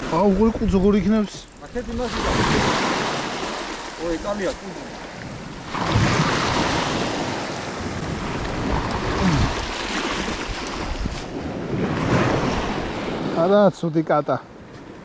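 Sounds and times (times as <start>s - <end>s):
wind buffeting microphone: 0.0s - 13.4s
sea waves washing ashore: 0.0s - 15.0s.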